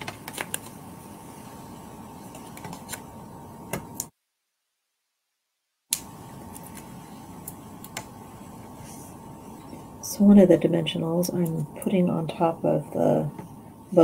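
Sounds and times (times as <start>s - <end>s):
steady hiss with faint hum: 0.0s - 4.2s, 5.9s - 14.0s.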